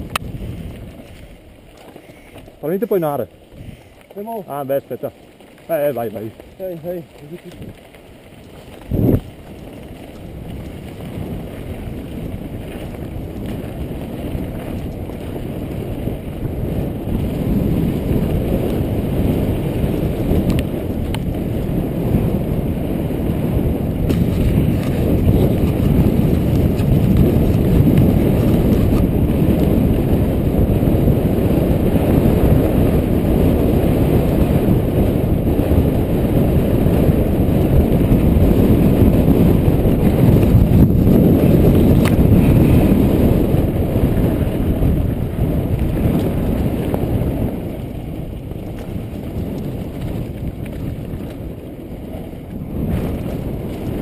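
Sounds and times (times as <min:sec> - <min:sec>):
bike tyres rolling on gravel: 0:00.0 - 0:54.0
wind on microphone: 0:00.0 - 0:54.0.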